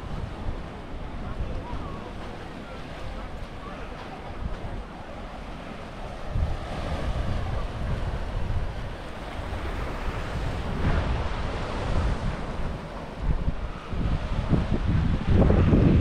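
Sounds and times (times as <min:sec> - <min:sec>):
small waves breaking on shore: 0:00.0 - 0:16.0
wind buffeting microphone: 0:00.0 - 0:16.0.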